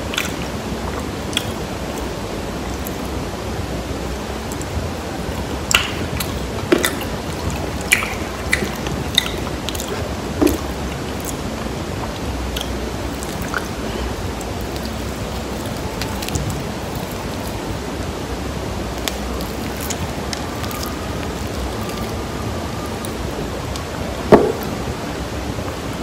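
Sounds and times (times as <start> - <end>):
microphone hiss: 0.0 - 26.0.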